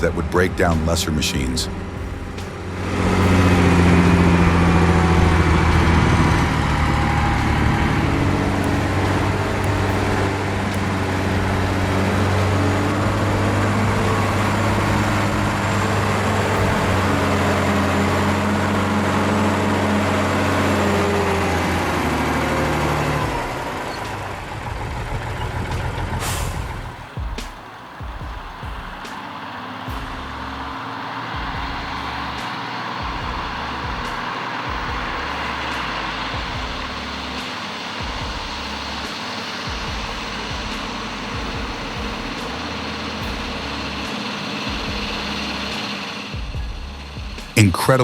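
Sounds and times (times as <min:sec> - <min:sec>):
diesel truck engine running: 0:00.0 - 0:48.0.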